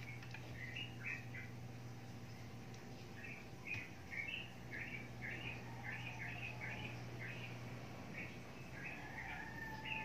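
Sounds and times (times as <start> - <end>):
low hum: 0.0 - 10.0
small bird chirping: 0.0 - 10.0.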